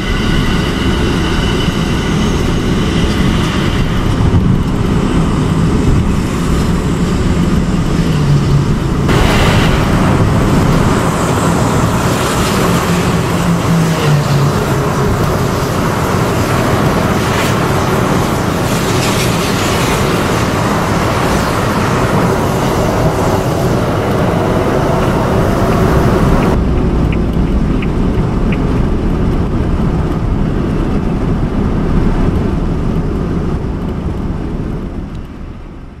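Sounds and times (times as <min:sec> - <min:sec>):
car road noise rumble: 0:00.0 - 0:36.0.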